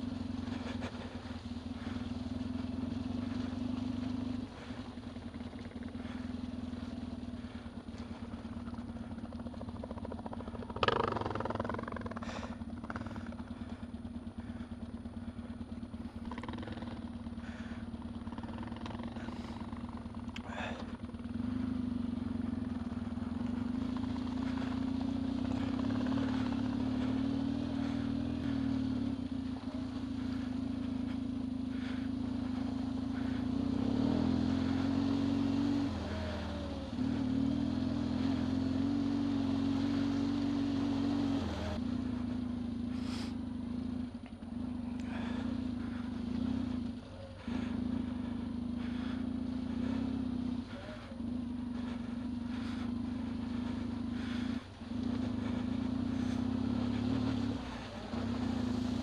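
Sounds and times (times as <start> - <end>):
motorcycle engine riding on dirt: 0.0 - 59.0.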